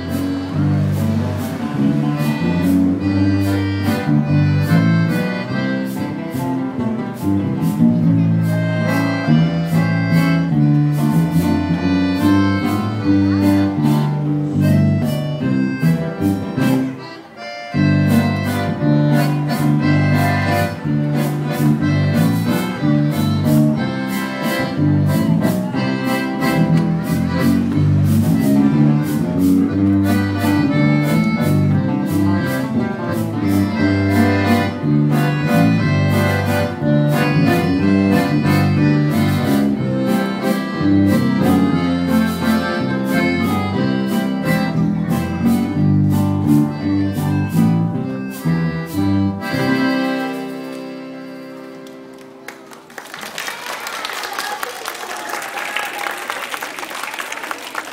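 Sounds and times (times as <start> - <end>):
guitars: 0.0 - 52.8
accordion: 0.0 - 53.0.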